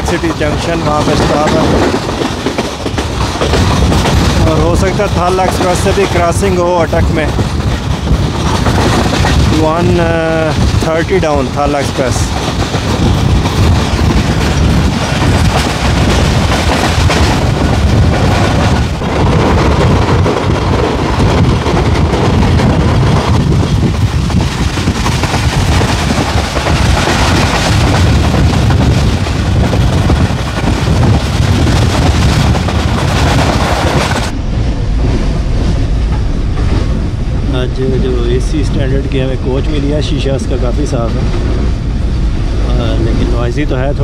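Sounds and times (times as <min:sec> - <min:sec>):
train carriage rumbling: 0:00.0 - 0:44.0.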